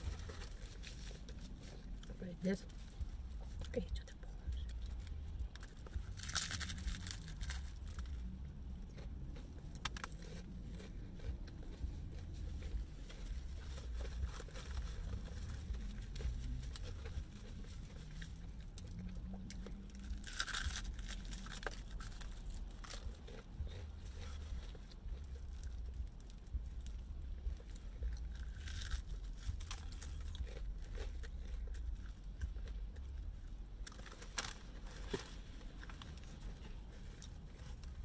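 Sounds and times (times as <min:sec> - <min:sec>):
crunchy bites and chewing: 0:00.0 - 0:03.6, 0:04.4 - 0:38.0
steady low rumble: 0:00.0 - 0:38.0.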